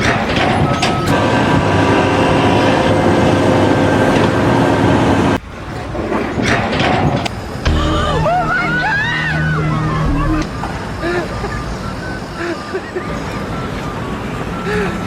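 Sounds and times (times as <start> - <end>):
heavy machine running: 0.0 - 15.0.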